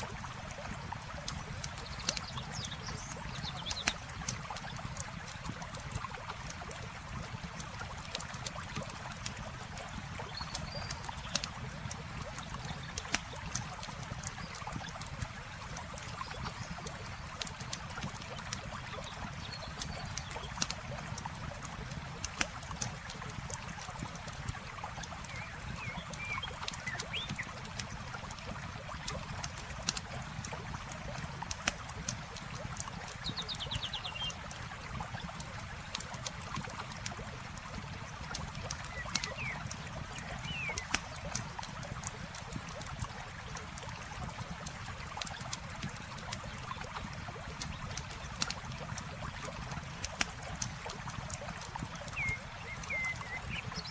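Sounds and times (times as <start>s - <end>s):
campfire crackling and popping: 0.0s - 53.9s
flowing water: 0.0s - 53.9s.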